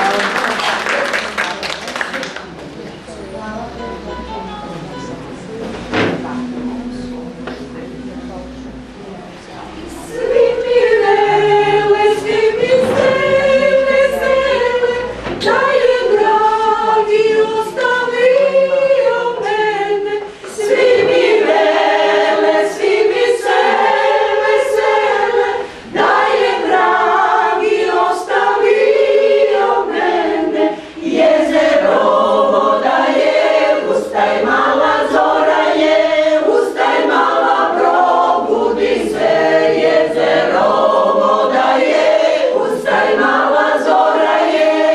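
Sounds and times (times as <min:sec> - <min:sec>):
women's choir singing a cappella: 0:04.7 - 0:44.9.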